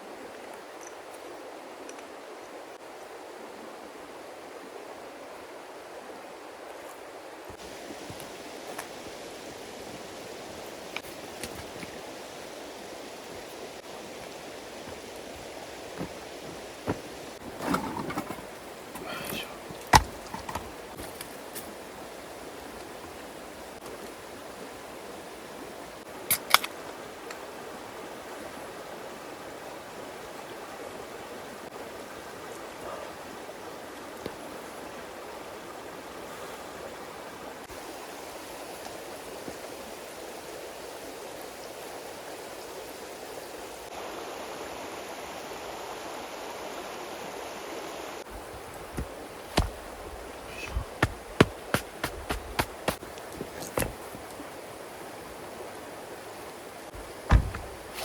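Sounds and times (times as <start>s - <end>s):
flowing stream: 0.0s - 58.0s.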